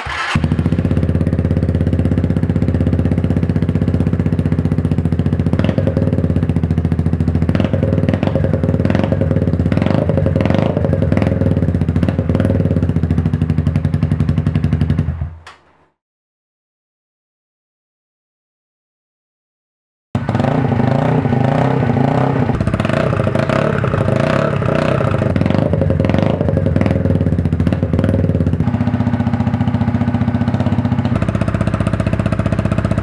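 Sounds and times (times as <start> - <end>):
motorbike engine running: 0.0 - 15.4, 20.2 - 33.0.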